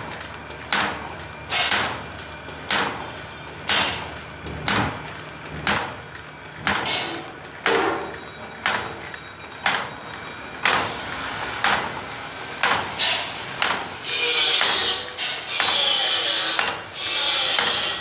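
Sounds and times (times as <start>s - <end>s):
machine sharp clanks: 0.0s - 18.0s
steady mechanical rattle: 0.0s - 18.0s.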